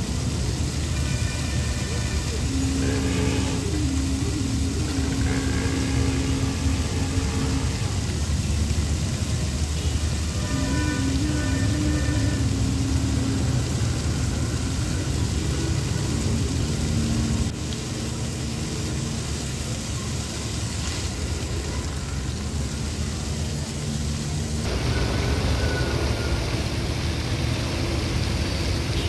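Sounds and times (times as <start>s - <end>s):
fountain water splashing: 0.0s - 29.0s.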